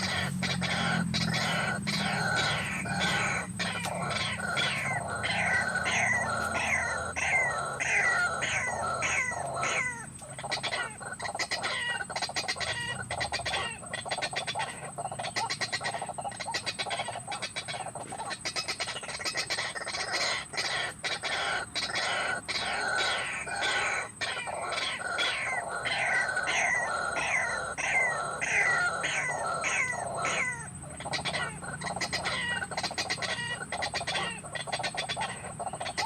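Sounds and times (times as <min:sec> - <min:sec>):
waterhens calling: 0:00.0 - 0:36.0.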